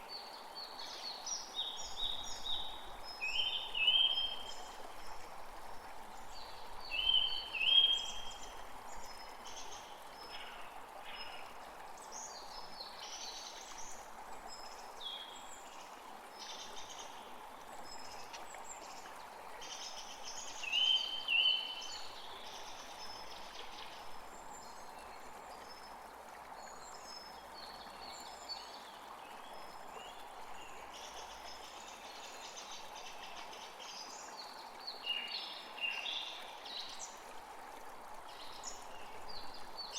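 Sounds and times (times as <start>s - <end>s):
steady hiss of water: 0.0s - 39.9s.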